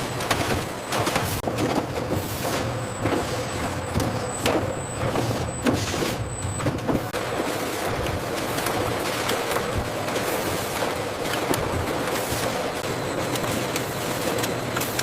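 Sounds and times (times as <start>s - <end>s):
machinery clicks and clanks: 0.0s - 15.0s
machinery low mechanical hum: 0.0s - 15.0s.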